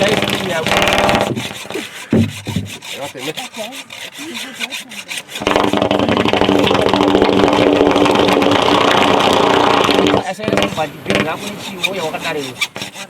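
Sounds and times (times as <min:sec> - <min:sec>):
motor running: 0:00.0 - 0:02.7, 0:03.7 - 0:12.6
wavering calls or distant voices: 0:00.0 - 0:13.0.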